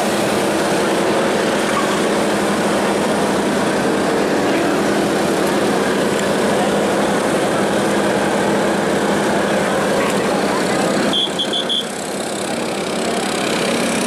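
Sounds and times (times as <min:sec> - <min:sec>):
engines droning: 0:00.0 - 0:14.0.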